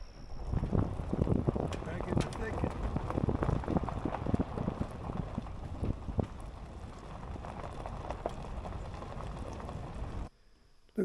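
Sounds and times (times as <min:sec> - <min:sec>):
vehicle rumble on rough road: 0:00.0 - 0:10.3.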